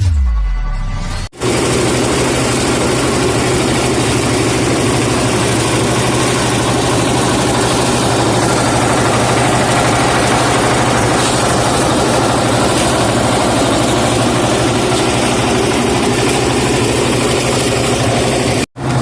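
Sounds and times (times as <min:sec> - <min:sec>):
large engine idling: 0:01.3 - 0:19.0.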